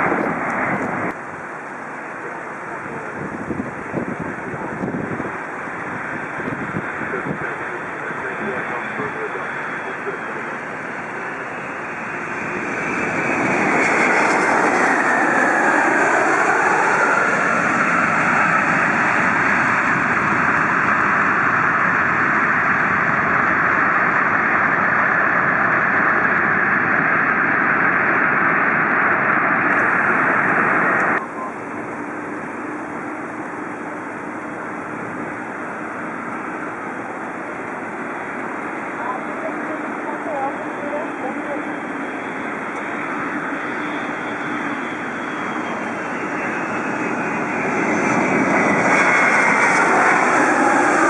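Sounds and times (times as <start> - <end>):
jet engines passing: 0.0 - 51.0.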